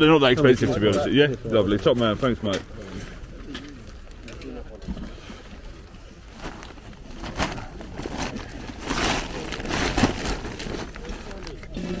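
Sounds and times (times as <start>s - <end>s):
rustling and crinkling handling noise: 0.0s - 12.0s.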